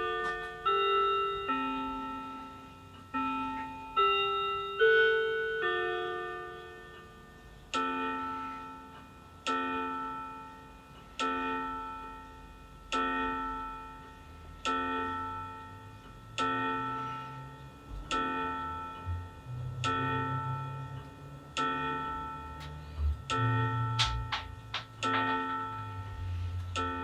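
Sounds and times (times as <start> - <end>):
clock bell chiming: 0.0 - 27.0.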